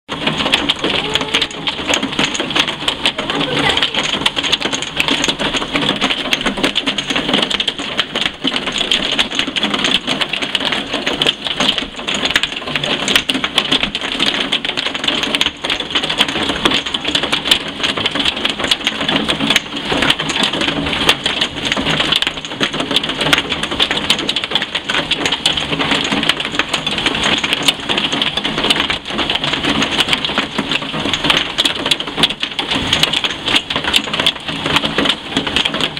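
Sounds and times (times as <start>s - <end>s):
heavy rain on hard ground: 0.1s - 35.9s
runoff water: 0.1s - 35.9s.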